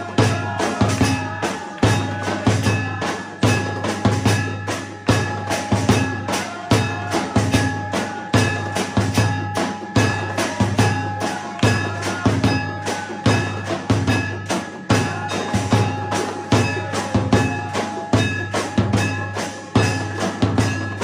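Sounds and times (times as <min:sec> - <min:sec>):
bell ringing: 0:00.0 - 0:21.0
drums beaten fast: 0:00.0 - 0:21.0.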